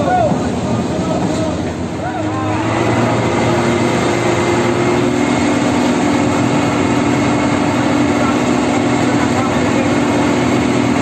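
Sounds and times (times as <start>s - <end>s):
diesel engine running: 0.3s - 11.0s.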